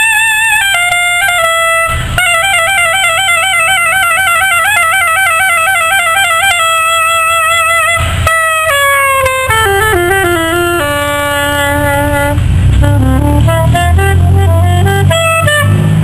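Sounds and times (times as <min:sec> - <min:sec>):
soprano saxophone melody: 0:00.0 - 0:16.0.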